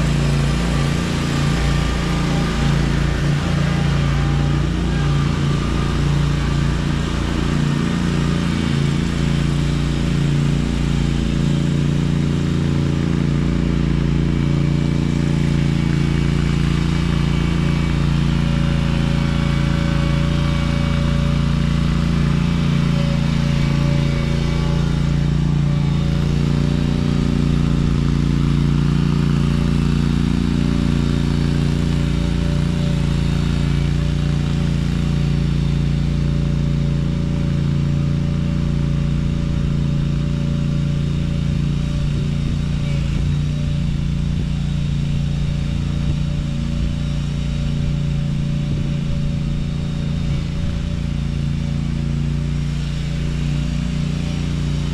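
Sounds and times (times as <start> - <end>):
small engine droning: 0.0 - 54.9.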